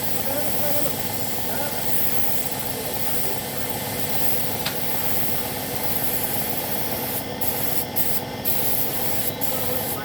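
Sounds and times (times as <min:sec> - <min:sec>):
paint spray gun hissing: 0:00.0 - 0:10.0.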